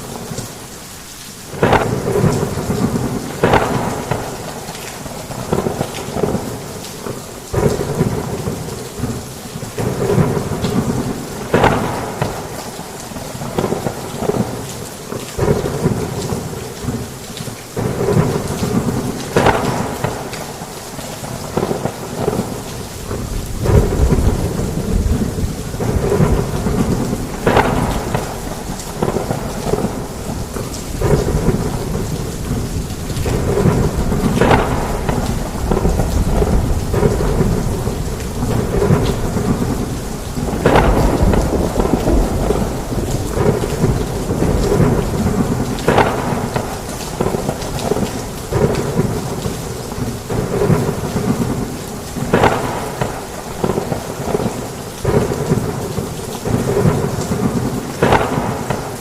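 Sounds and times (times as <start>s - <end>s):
heavy rain falling: 0.0s - 59.0s
thunder rumbling: 1.5s - 17.0s, 17.8s - 59.0s.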